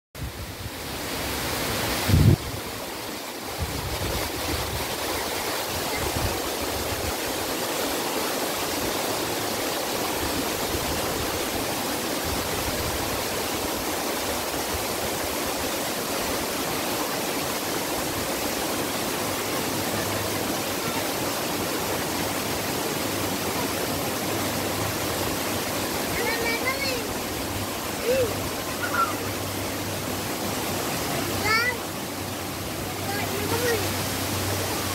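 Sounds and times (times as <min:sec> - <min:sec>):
stream cascading over rocks: 0:00.2 - 0:34.9.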